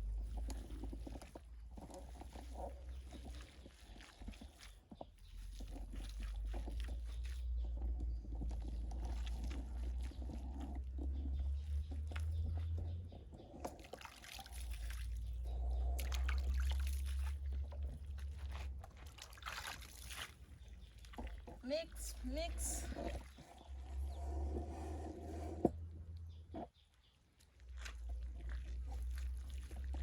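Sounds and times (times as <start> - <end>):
hands squelching mud: 0.0 - 25.2, 25.8 - 30.0.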